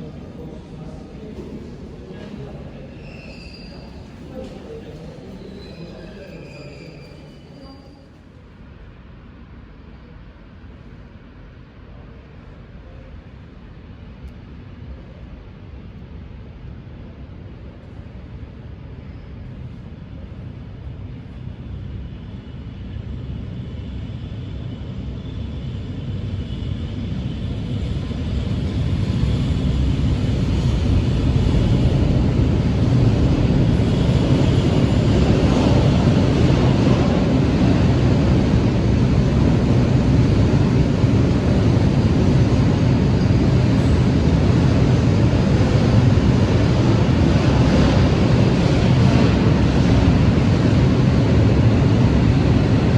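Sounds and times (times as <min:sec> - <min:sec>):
train rumbling past: 0:00.0 - 0:15.4, 0:16.3 - 0:52.9.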